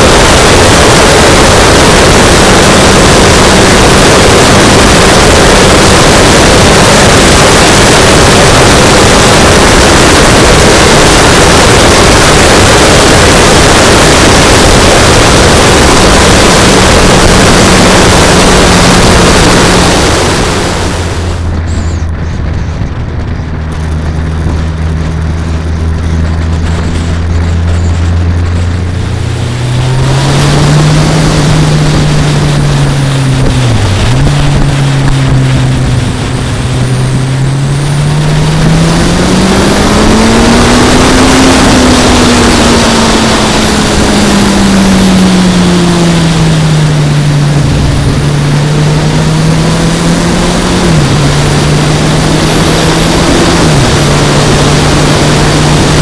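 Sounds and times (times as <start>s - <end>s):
motorcycle engine: 0.0s - 56.0s
wind rush on microphone: 0.0s - 56.0s.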